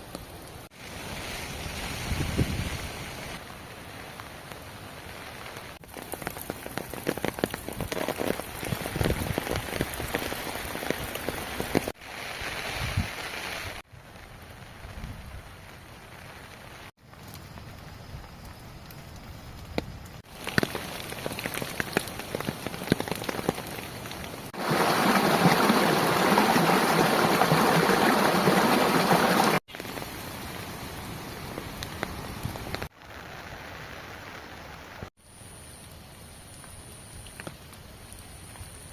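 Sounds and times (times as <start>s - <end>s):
heavy rain falling: 0.3s - 16.9s, 20.2s - 35.1s.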